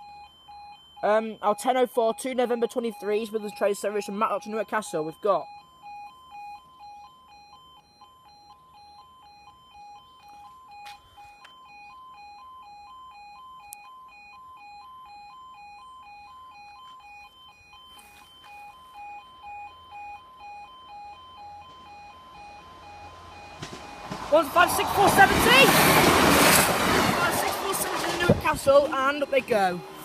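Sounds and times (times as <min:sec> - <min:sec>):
two-tone level crossing alarm: 0:00.0 - 0:30.0.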